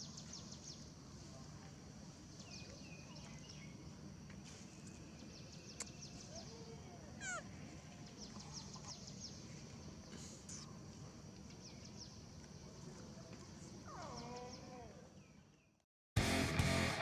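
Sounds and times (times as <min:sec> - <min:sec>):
faint bird chirping: 0:00.0 - 0:15.8.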